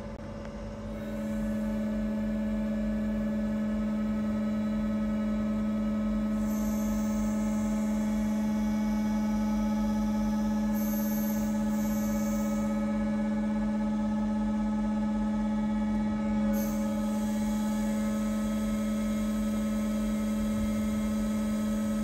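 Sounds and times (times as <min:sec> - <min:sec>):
bending machine humming: 0:00.0 - 0:22.0.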